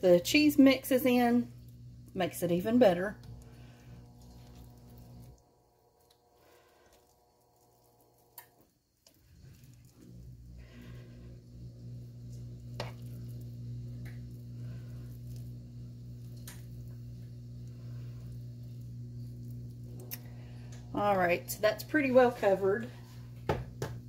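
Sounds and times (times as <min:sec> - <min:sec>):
steady low hum: 0:00.0 - 0:24.0
spoon squishing mashed potatoes: 0:01.5 - 0:20.9.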